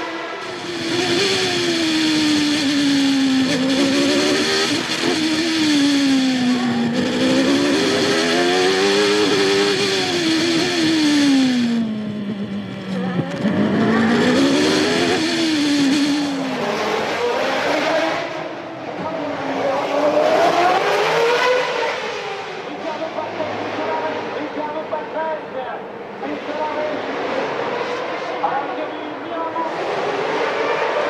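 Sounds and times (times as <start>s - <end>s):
racing car engine revving: 0.0s - 31.0s.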